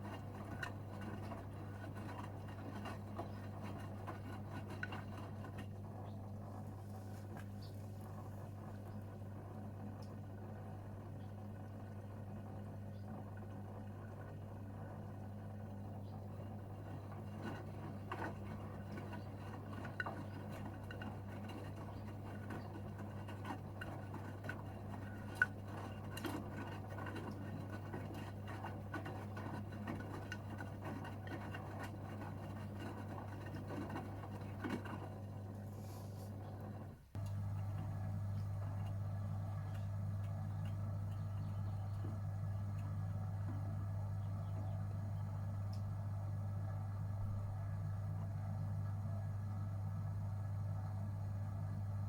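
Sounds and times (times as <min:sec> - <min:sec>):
washing machine drum humming: 0:00.0 - 0:52.0.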